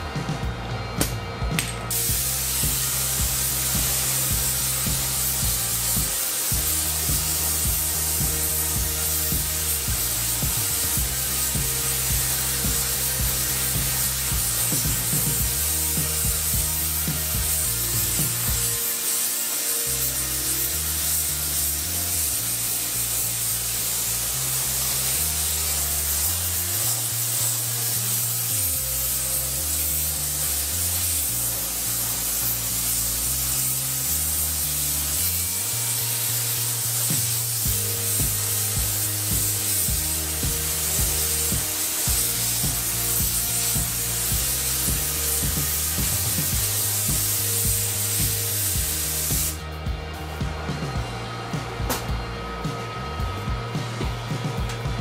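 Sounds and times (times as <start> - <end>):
music with stepping bass line: 0.0 - 19.1, 19.7 - 55.0
paint spray gun hissing: 1.0 - 55.0.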